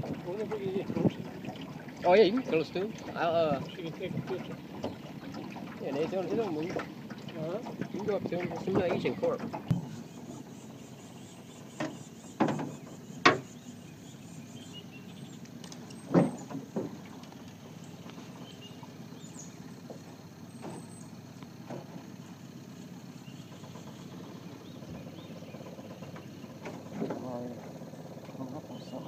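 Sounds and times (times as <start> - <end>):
hollow knocks on boat: 0.0 - 10.2, 11.6 - 13.8, 15.7 - 22.2, 23.3 - 28.4.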